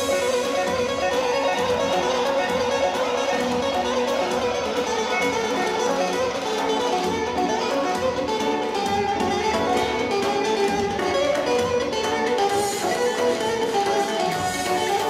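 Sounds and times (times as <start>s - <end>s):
bowed fiddle: 0.0s - 15.0s
plucked strings: 0.0s - 15.0s.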